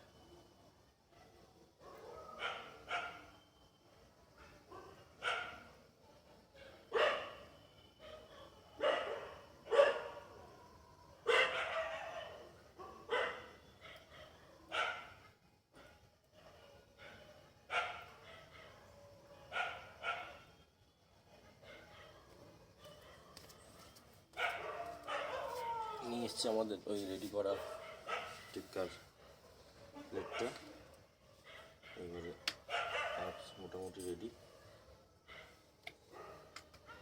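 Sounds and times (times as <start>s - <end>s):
dog barking: 1.1s - 3.4s, 4.4s - 10.6s, 11.2s - 20.6s, 21.6s - 23.5s, 24.4s - 26.2s, 27.4s - 37.0s.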